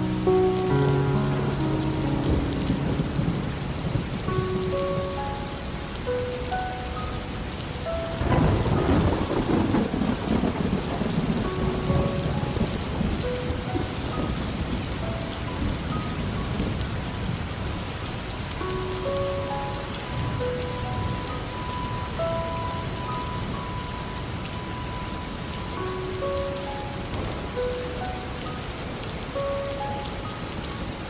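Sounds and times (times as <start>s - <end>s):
steady rain falling: 0.0s - 31.0s
thunder rumbling: 0.0s - 31.0s.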